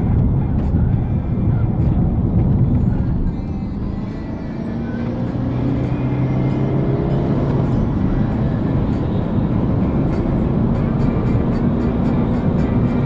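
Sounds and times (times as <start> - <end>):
car engine running hard: 0.0 - 13.0
road noise: 0.0 - 13.0.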